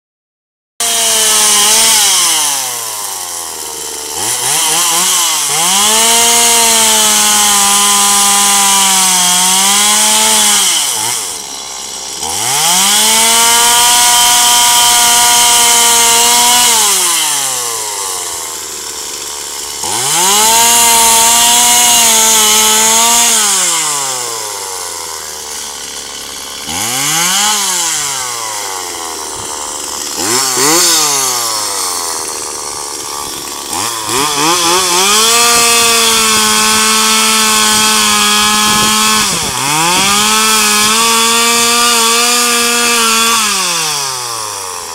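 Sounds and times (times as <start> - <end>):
chainsaw cutting branches: 0.8 - 44.9.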